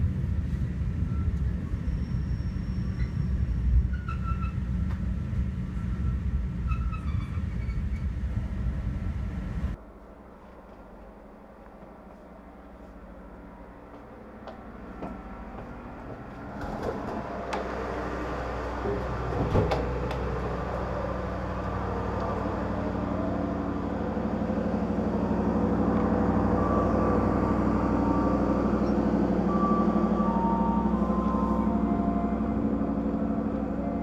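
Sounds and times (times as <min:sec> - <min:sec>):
train diesel engine running: 0:00.0 - 0:34.0.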